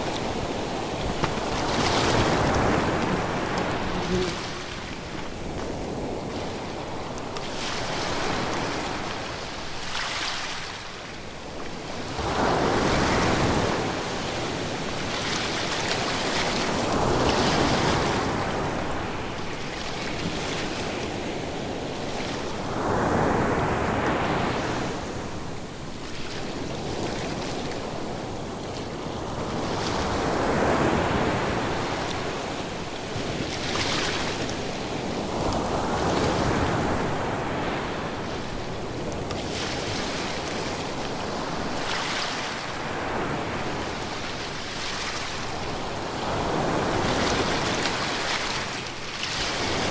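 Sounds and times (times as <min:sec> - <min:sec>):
waves breaking and washing back: 0:00.0 - 0:49.9.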